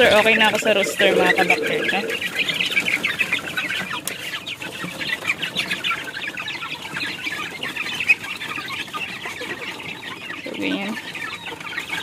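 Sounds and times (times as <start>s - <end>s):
chicks peeping and clucking: 0.0s - 12.0s.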